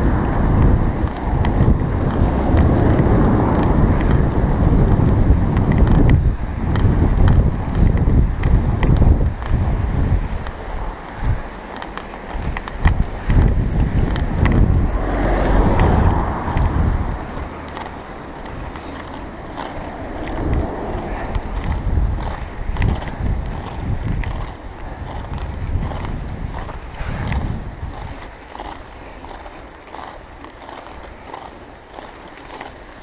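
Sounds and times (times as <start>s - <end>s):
bicycle clicks and knocks: 0.0s - 33.0s
wind buffeting microphone: 0.0s - 33.0s.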